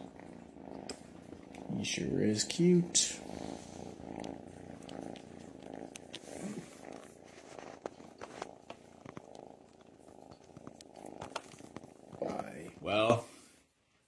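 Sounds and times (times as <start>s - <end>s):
kitten purring: 0.0s - 13.7s.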